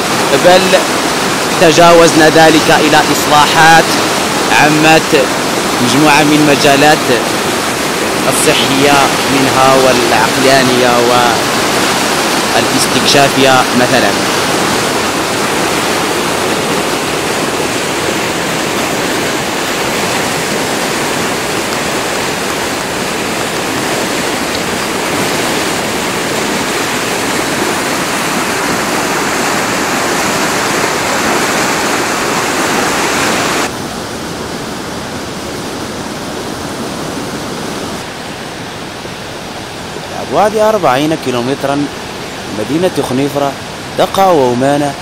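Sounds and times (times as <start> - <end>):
floodwater rushing: 0.0 - 45.0.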